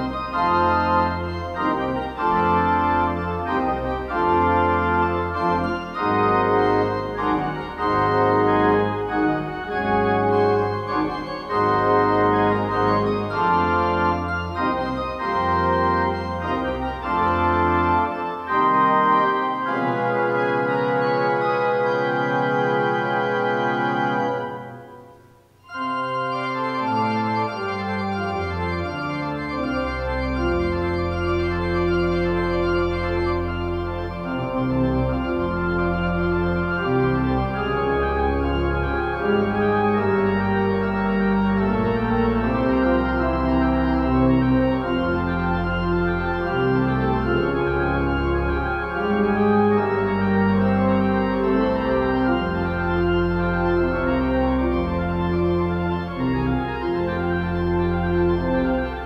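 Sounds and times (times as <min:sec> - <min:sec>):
organ playing slow chords: 0:00.0 - 0:59.0.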